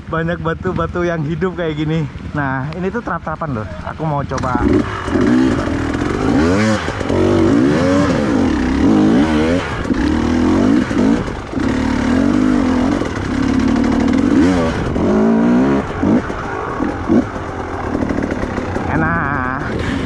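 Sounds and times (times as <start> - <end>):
motorcycle engine revving: 3.0 - 20.0.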